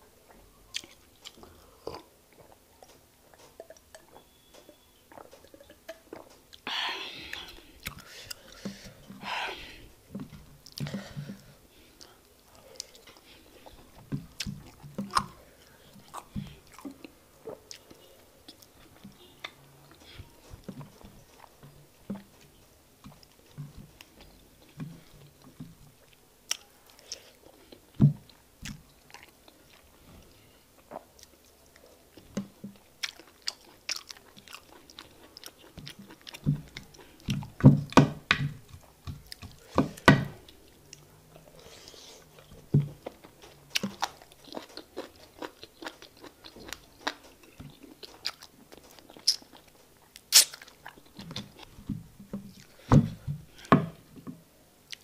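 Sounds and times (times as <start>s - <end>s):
wet chewing and lip smacks: 0.7s - 6.6s, 7.3s - 9.2s, 12.0s - 30.0s, 30.8s - 37.6s, 38.6s - 39.7s, 40.5s - 51.8s.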